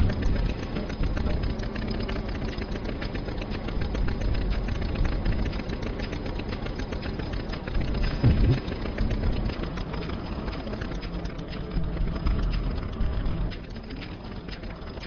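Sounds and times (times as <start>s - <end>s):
tractor engine clattering: 0.0s - 15.0s.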